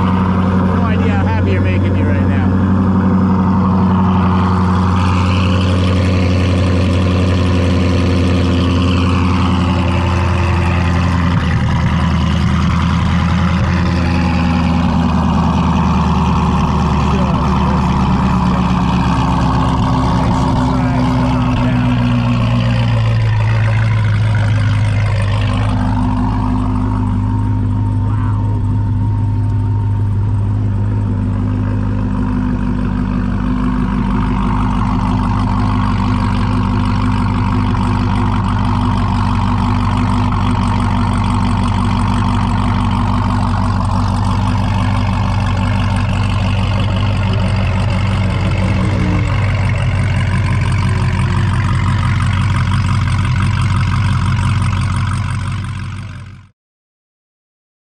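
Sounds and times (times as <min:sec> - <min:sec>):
car engine idling: 0:00.0 - 0:56.5.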